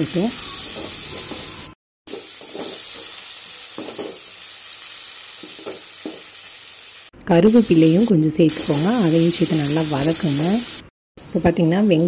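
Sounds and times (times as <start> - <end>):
vegetables sizzling in hot oil: 0.0 - 11.8.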